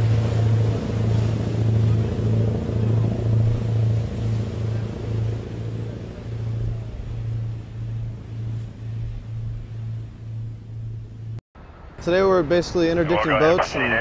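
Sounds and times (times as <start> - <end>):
water rushing past hull: 0.0 - 12.0
boat engines droning: 0.0 - 14.0.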